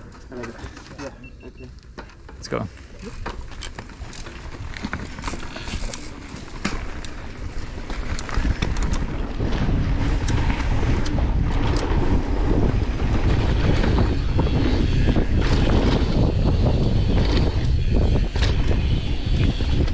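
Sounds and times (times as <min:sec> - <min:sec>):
bike tyres rattling on dirt trail: 0:00.0 - 0:19.9
wind buffeting microphone: 0:00.0 - 0:19.9.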